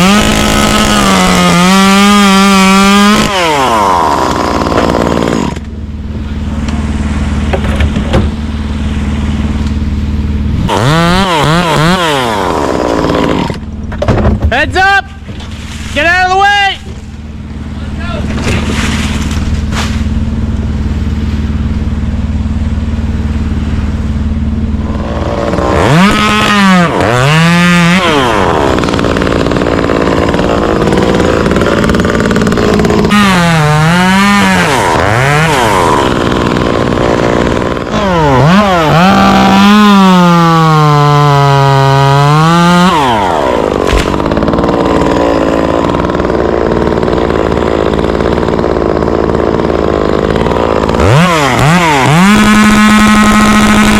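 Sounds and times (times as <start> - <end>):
chainsaw cutting wood: 0.0 - 14.7, 15.4 - 53.9.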